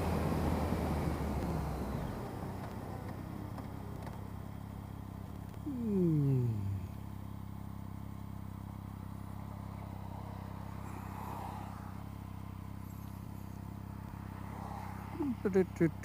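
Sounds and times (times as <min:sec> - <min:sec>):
motorcycle engine: 0:00.0 - 0:16.0.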